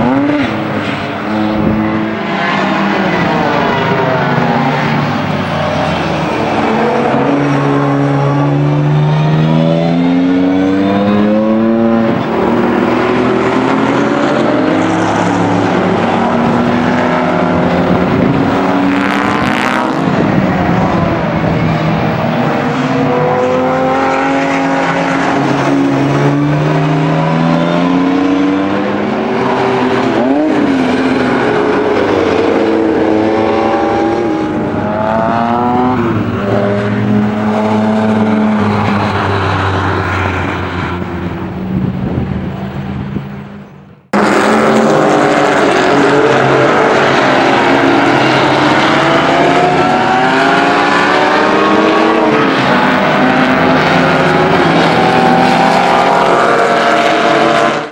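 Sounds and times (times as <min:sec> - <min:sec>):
race car engines accelerating: 0:00.0 - 0:57.9.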